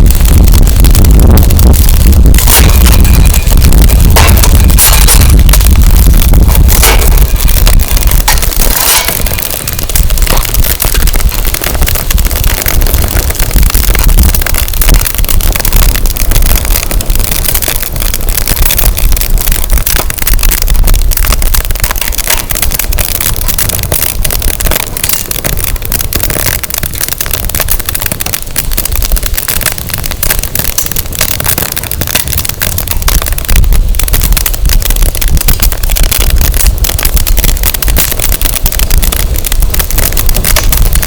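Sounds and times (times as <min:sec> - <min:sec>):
firewood crackling and popping: 0:00.0 - 0:41.0
wind rumble on microphone: 0:00.0 - 0:41.0.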